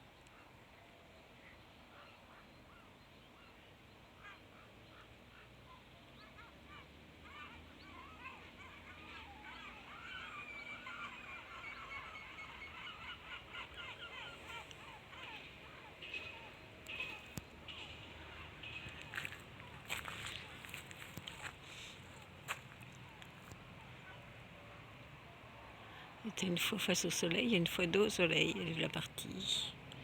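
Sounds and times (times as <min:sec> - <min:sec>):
flock of birds calling: 0:04.2 - 0:29.8.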